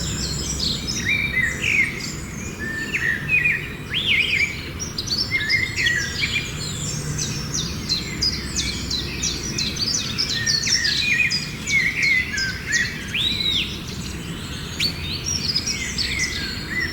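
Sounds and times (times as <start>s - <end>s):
small birds chirping and twittering: 0.0s - 16.9s.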